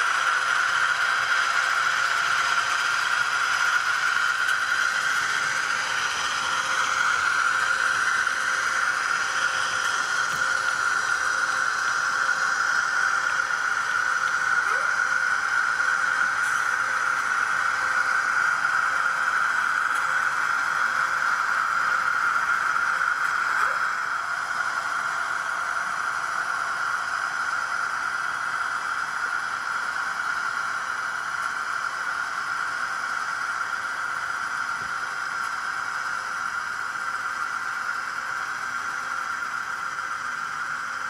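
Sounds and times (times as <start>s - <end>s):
model train whirring: 0.0s - 41.0s.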